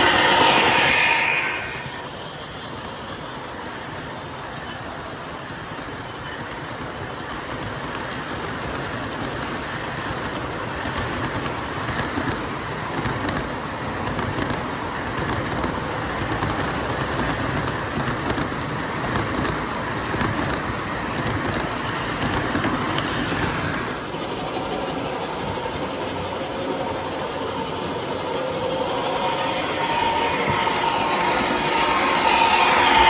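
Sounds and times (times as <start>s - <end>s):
model train rumbling on rails: 0.0s - 33.0s.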